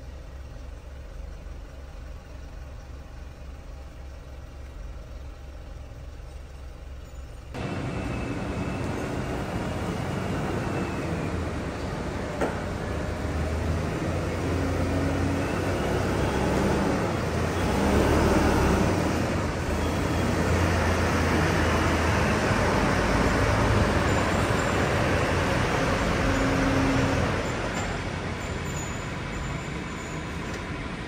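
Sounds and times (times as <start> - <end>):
truck diesel engine drone: 0.0 - 31.0.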